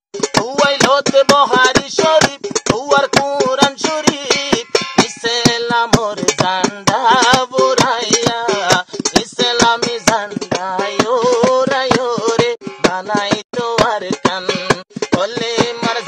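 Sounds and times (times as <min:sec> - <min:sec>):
fast percussive beat: 0:00.1 - 0:16.0
person singing with vibrato: 0:00.2 - 0:16.0.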